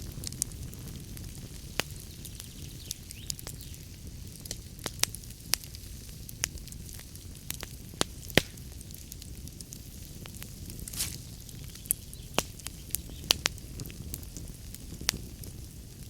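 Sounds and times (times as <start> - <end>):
fire crackling and popping: 0.0 - 16.0
low steady fire rumble: 0.0 - 16.0.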